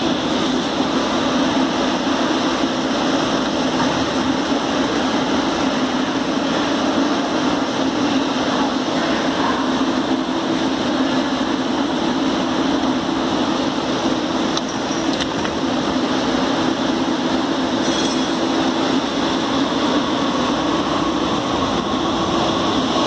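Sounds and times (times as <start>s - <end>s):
light-rail train humming: 0.0s - 23.0s.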